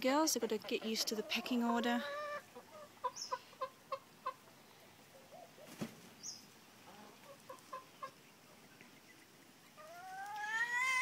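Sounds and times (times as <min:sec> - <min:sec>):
hens clucking: 0:00.1 - 0:06.1, 0:06.8 - 0:11.0.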